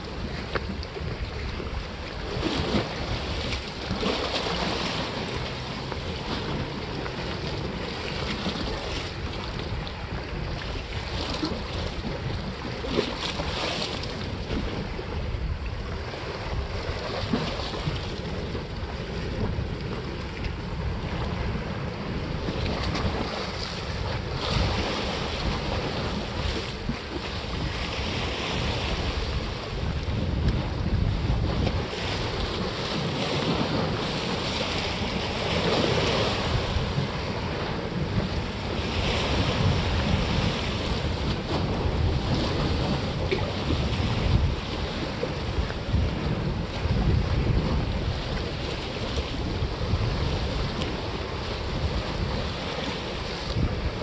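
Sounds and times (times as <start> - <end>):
waves washing against rocks: 0.0 - 54.0
wind noise on microphone: 0.0 - 54.0.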